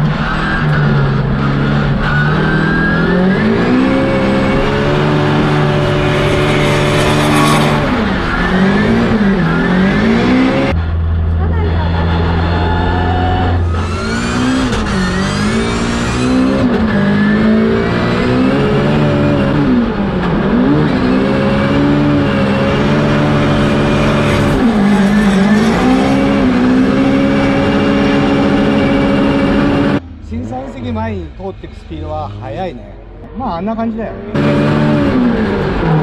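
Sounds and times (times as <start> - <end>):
car engine revving hard: 0.0 - 10.8, 11.5 - 30.0, 34.3 - 36.0.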